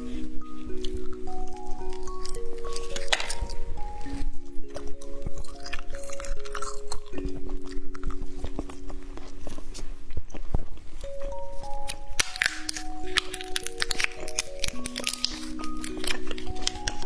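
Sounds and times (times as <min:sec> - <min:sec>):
chewing and crunching candy: 0:00.0 - 0:17.0
soft background music: 0:00.0 - 0:17.0.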